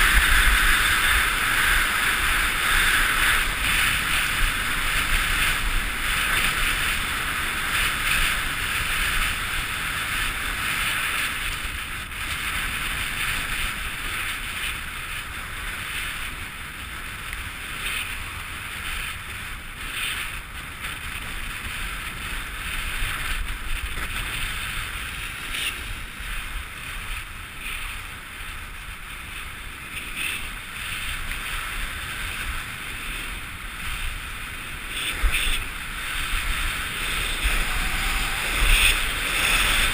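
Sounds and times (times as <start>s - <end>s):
skis hissing on packed snow: 0.0s - 39.9s
wind rushing over microphone: 0.0s - 39.9s.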